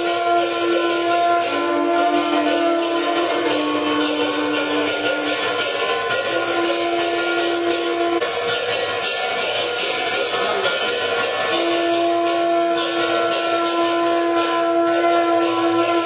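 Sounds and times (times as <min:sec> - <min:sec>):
conch shells blowing low notes: 0:00.0 - 0:08.8, 0:10.9 - 0:16.0
bells and cymbals clanging: 0:00.0 - 0:16.0.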